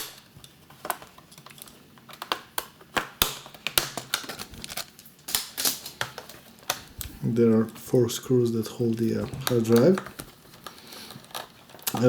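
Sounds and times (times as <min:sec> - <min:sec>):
plastic laptop casing handled: 0:00.0 - 0:07.8, 0:09.0 - 0:12.0.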